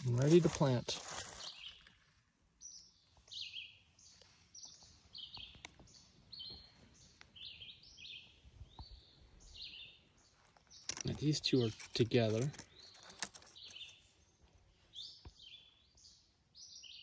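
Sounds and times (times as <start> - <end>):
small bird chirping: 1.3 - 17.0.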